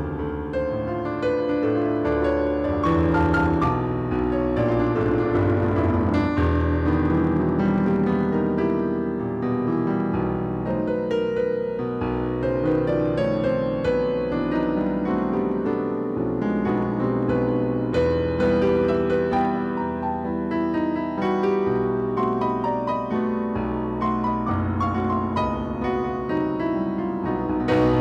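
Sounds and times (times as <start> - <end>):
digital piano playing: 0.0 - 28.0.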